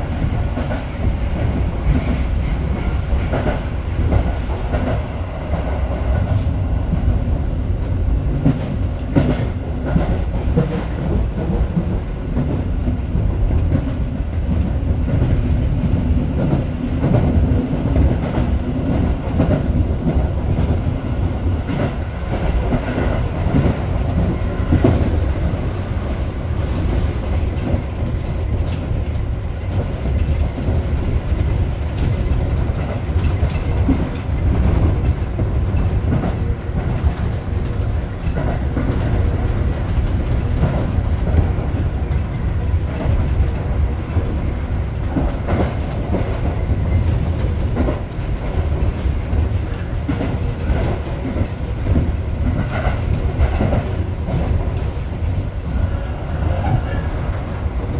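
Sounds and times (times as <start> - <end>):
train running rumble: 0.0 - 57.9.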